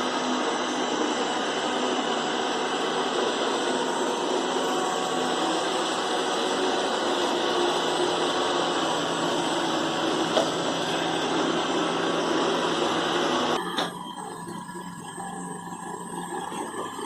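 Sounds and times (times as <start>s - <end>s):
robot vacuum whirring: 0.0s - 17.0s.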